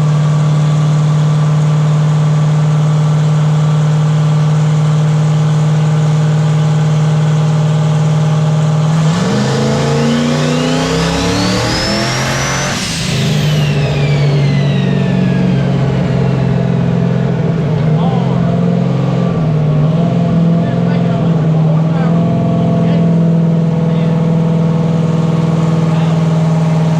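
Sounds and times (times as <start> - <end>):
car engine revving: 0.0 - 26.9
high turbo whine: 0.0 - 26.9.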